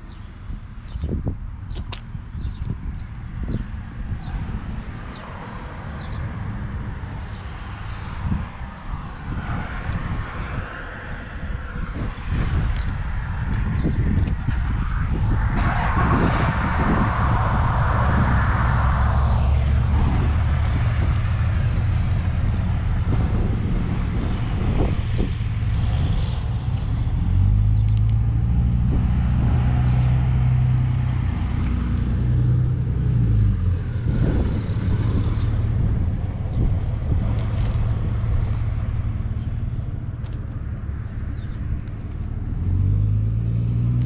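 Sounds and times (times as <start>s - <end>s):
engine hum: 0.0s - 44.0s
low rumble: 0.0s - 44.0s.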